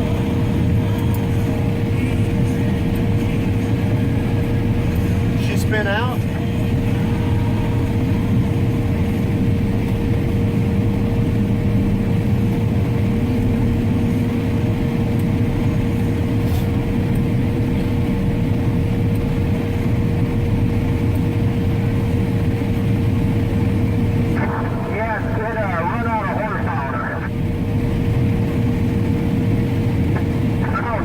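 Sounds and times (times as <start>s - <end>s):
heavy machinery engine whine: 0.0s - 31.0s.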